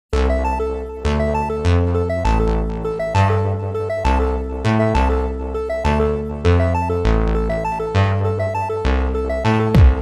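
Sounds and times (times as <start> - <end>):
bass line: 0.1 - 10.0
keyboard and synth melody: 0.1 - 10.0.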